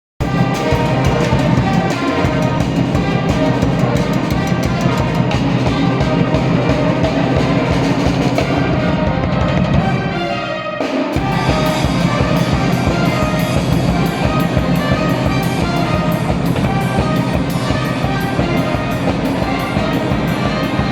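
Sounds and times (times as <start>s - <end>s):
energetic music with drum beat: 0.2s - 20.9s.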